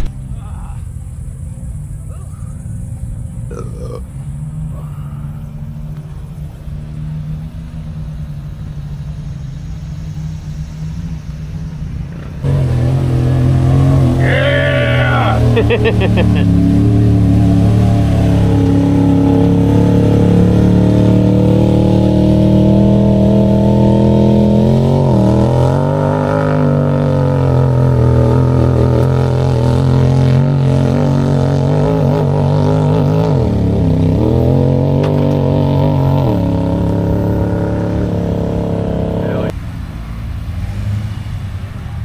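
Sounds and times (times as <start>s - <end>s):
off-road vehicle engine running: 0.0s - 42.0s.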